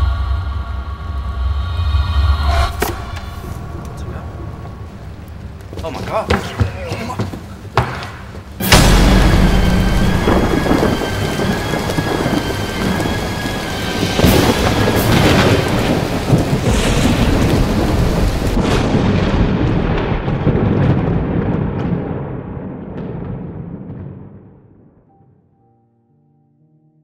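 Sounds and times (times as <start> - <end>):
heavy rain: 0.0 - 24.2
thunder rumbling and cracking: 0.0 - 25.1.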